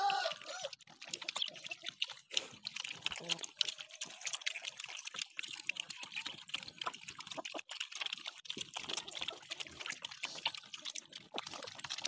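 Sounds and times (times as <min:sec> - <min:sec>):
piglets chewing and slurping: 0:00.0 - 0:12.0.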